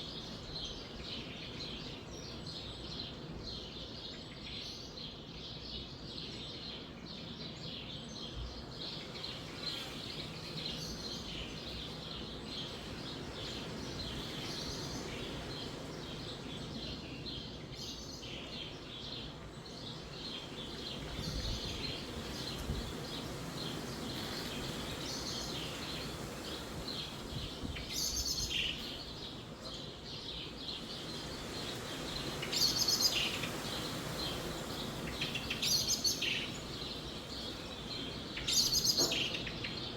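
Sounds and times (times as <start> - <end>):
small birds chirping: 0.0 - 39.9
wind in trees: 0.0 - 39.9.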